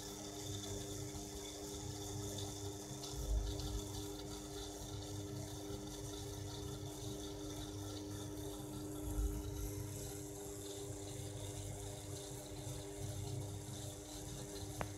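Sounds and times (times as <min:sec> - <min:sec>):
electrical mains hum: 0:00.0 - 0:14.9.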